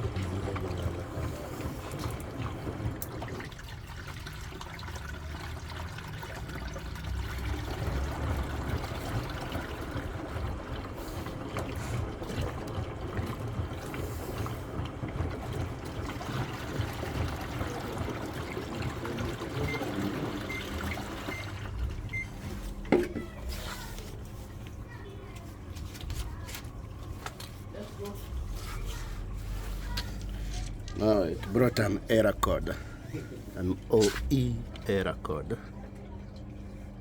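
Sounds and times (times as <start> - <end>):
washing machine churning and sloshing: 0.0 - 37.0.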